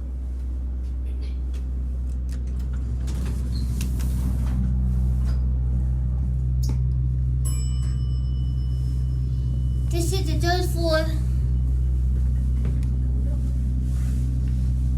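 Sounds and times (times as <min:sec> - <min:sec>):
elevator humming: 0:02.0 - 0:14.0.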